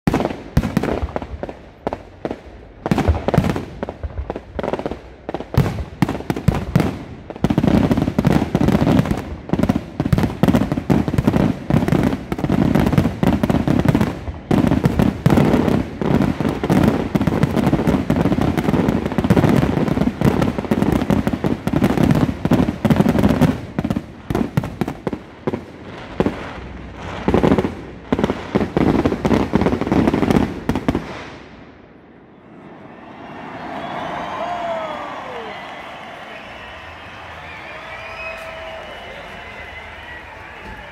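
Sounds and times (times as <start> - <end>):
fireworks bursting: 0.1 - 31.9, 33.7 - 40.9.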